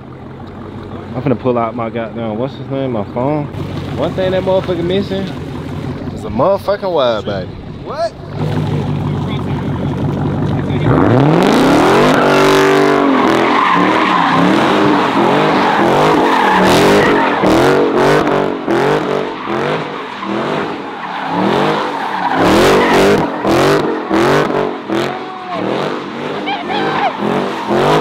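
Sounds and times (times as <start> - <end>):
car engine revving: 0.0 - 28.0
tires skidding and squealing: 0.6 - 28.0.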